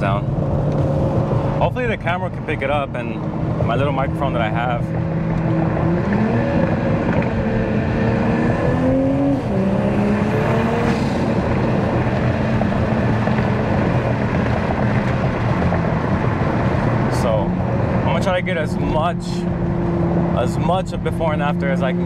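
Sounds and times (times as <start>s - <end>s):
car engine accelerating: 0.0s - 22.0s
road and wind noise: 0.0s - 22.0s.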